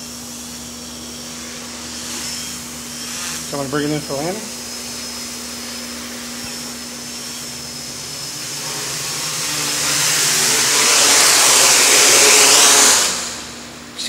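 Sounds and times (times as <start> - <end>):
quadcopter propellers whirring: 0.0 - 14.0.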